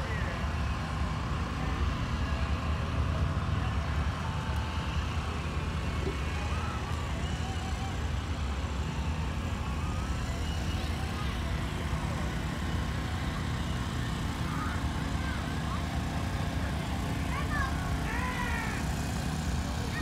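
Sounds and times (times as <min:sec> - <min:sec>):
diesel truck engines idling: 0:00.0 - 0:20.0
faint voices: 0:00.0 - 0:20.0.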